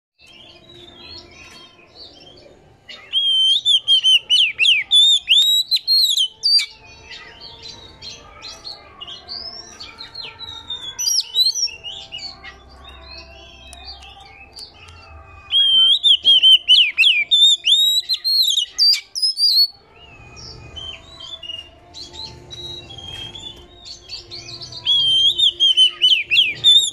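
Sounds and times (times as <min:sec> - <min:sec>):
bird singing: 0:00.2 - 0:26.9.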